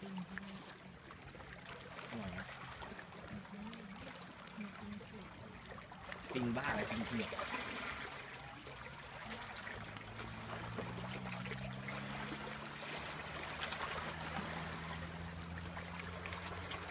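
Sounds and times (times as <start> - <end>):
low steady hum: 0.0 - 16.9
shallow water lapping: 0.0 - 16.9
small splashes: 0.0 - 16.9.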